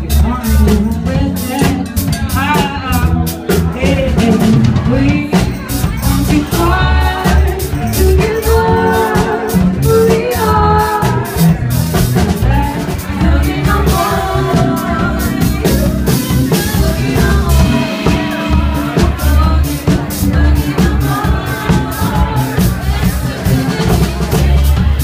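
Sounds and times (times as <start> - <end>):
drum kit: 0.0 - 25.0
heavy bass line: 0.0 - 25.0
woman singing: 3.8 - 11.6, 12.4 - 25.0.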